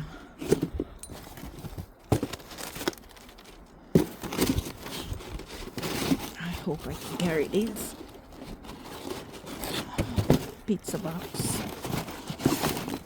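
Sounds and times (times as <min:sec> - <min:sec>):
cardboard rustling and crinkling: 0:00.2 - 0:13.0.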